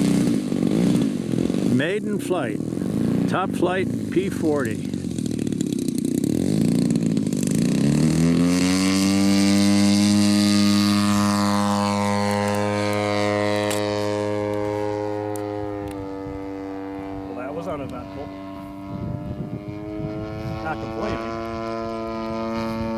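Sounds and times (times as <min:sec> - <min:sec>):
model plane engine drone: 0:00.0 - 0:22.9.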